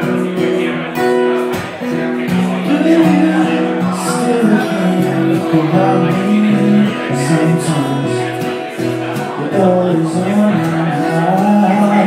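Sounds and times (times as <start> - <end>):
acoustic guitars strummed: 0.0 - 12.0.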